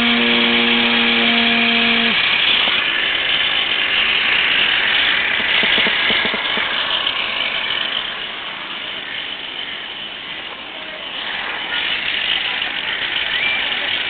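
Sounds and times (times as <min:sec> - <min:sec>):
construction machinery running: 0:00.0 - 0:14.0.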